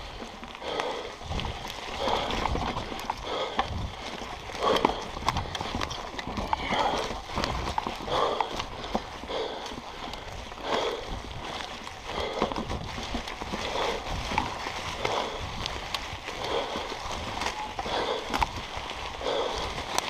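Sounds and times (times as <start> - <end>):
bike clicks and rattles: 0.0 - 20.0
bike tyres crackling through leaves: 0.0 - 20.0.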